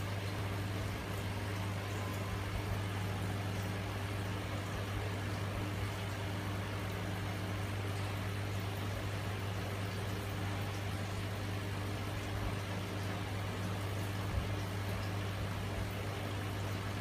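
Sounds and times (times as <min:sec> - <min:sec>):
aquarium water pump humming: 0:00.0 - 0:17.0.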